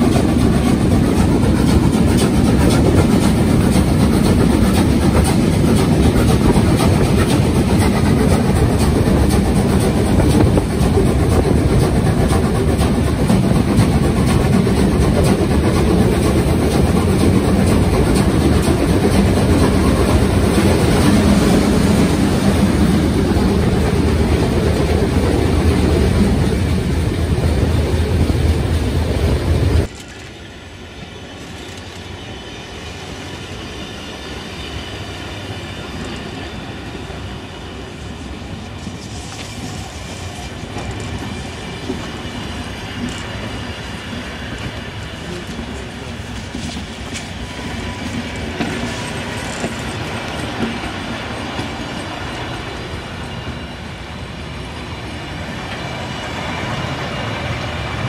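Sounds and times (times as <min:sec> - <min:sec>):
steam train in tunnel: 0:00.0 - 0:58.0.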